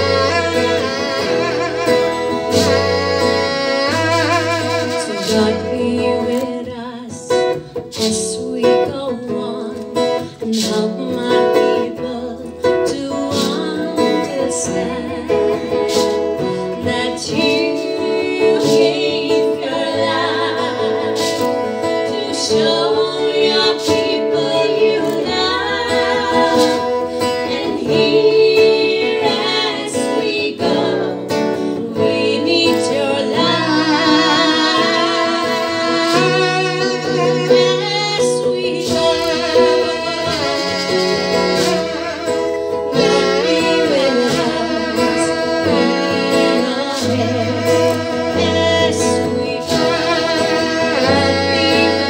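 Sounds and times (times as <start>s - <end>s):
strummed acoustic guitar: 0.0s - 52.0s
women singing together: 0.0s - 52.0s.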